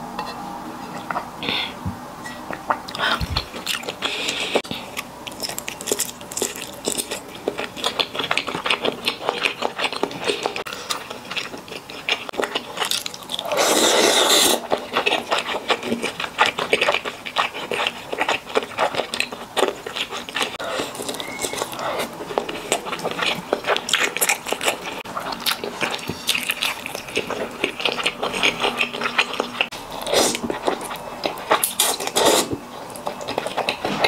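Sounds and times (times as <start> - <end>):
wet chewing and mouth clicks: 2.5 - 34.0.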